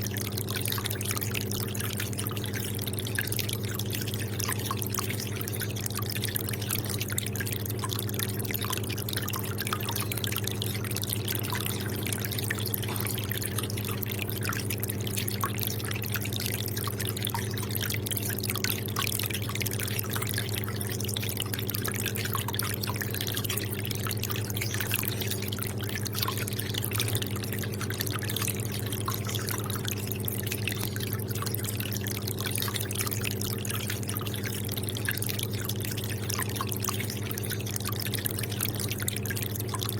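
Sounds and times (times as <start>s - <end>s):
steady low hum: 0.0s - 39.9s
water trickling and dripping: 0.0s - 39.9s.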